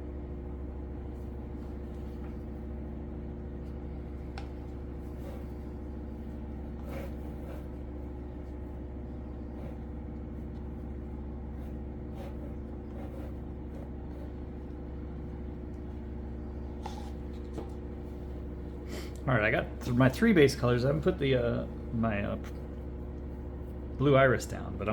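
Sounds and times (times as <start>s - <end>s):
low machine hum: 0.0s - 24.9s.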